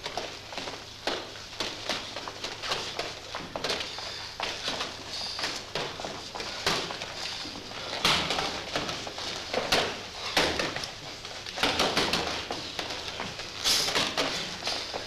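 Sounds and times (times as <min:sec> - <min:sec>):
feet shuffling on wooden floor: 0:00.0 - 0:15.0.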